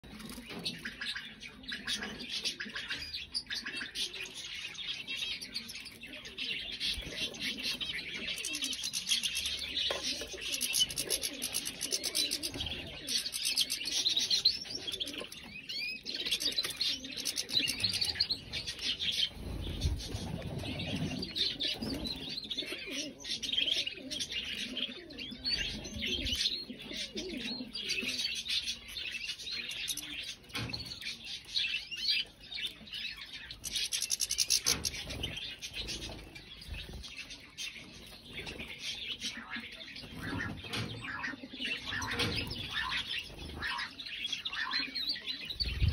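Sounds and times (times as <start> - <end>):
canaries singing and chirping: 0.0 - 45.9.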